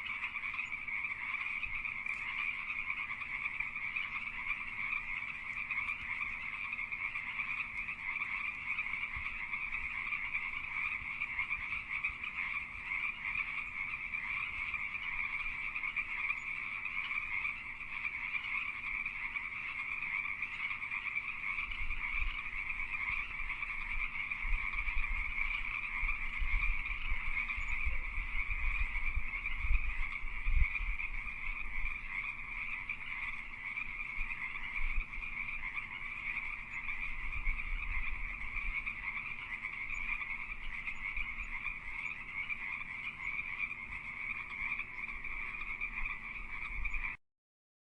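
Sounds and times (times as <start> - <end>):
chorus of frogs calling: 0.0 - 47.2.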